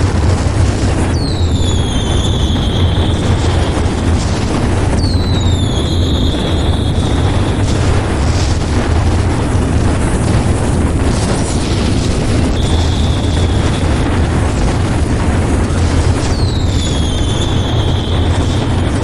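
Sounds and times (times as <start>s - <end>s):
faint firework cracks: 0.0s - 19.0s
fireworks booming rumble: 0.0s - 19.0s
whistling rocket: 0.0s - 19.0s.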